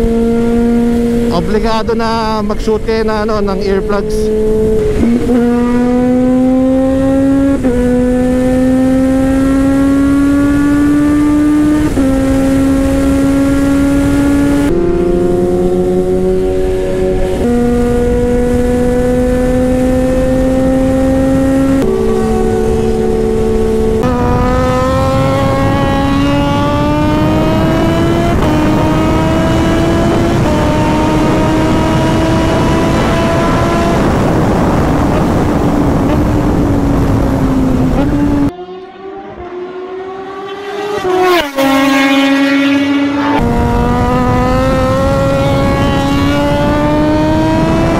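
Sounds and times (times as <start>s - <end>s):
motorcycle engine at high speed: 0.0s - 47.9s
wind rushing: 0.0s - 47.9s.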